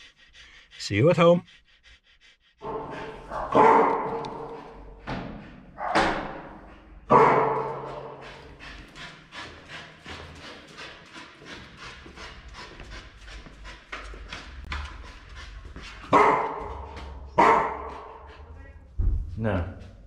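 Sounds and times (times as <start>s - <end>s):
dog barking in tiled hallway: 2.6s - 19.3s.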